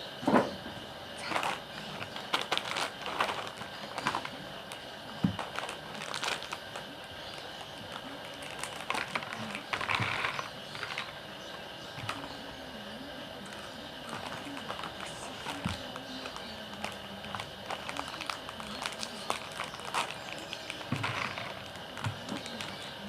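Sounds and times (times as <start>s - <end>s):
food crinkling: 1.2s - 23.0s.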